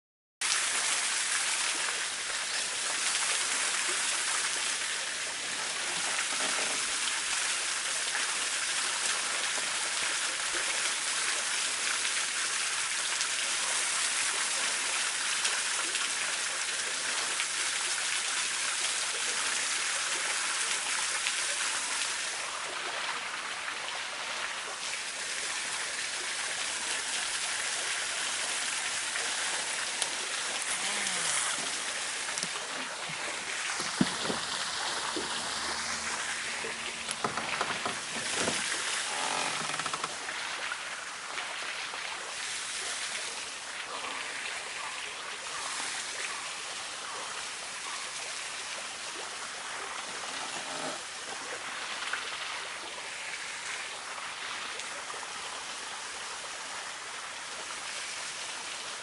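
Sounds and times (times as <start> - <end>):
running water hiss: 0.4 - 59.0.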